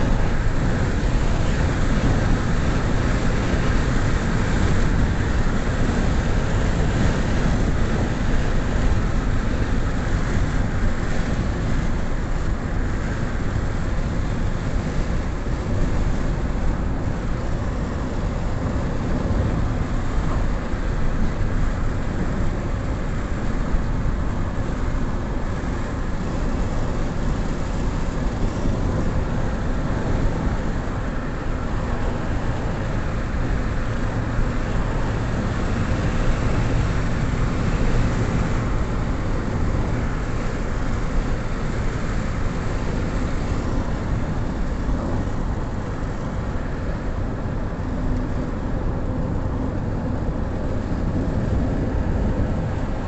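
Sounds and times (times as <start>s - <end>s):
car road noise from inside: 0.0s - 53.0s.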